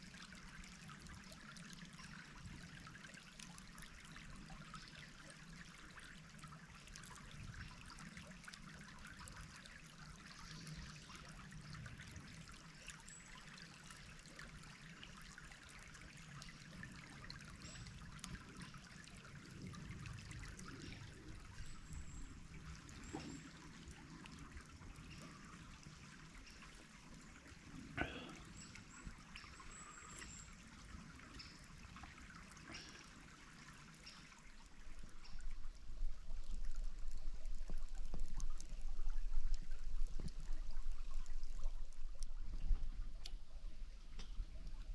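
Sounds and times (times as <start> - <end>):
stream trickling over stones: 0.0 - 44.9.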